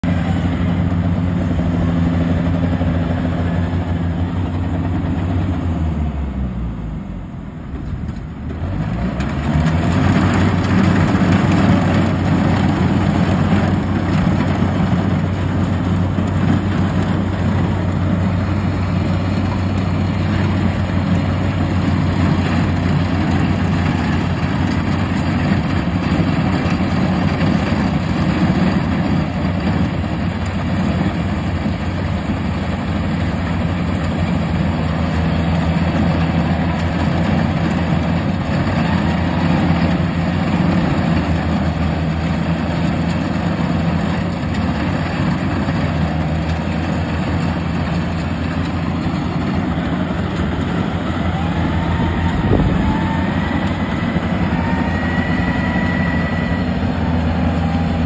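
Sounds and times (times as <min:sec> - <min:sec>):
combine harvester diesel engine: 0:00.0 - 0:58.0.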